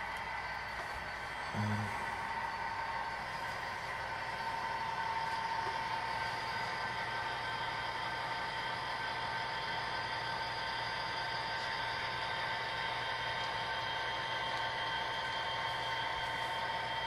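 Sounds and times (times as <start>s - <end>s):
model train electric motor whirring: 0.0s - 17.0s.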